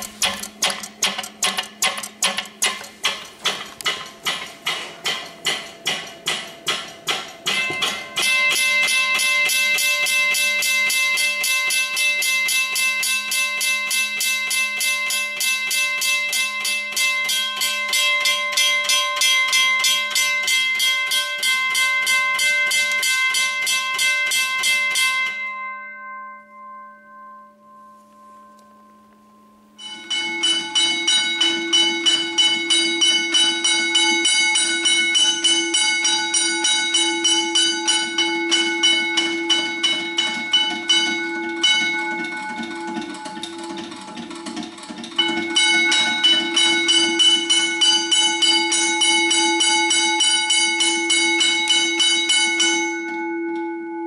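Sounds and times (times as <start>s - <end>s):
lower-toned bell striking rapidly: 3.9s - 54.0s
level crossing bells ringing fast: 5.4s - 54.0s.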